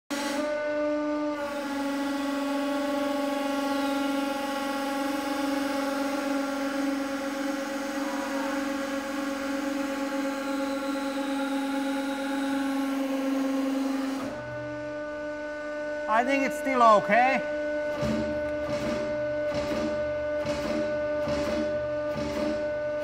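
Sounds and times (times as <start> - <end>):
hydraulic pump whining: 0.1 - 23.0.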